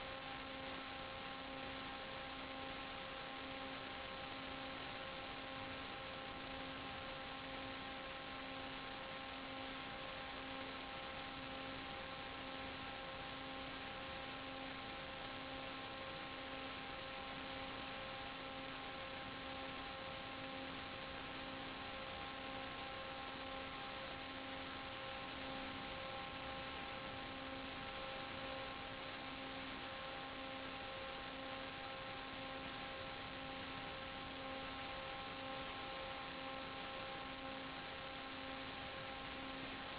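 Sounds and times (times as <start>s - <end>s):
electronic hum and hiss: 0.0s - 39.9s.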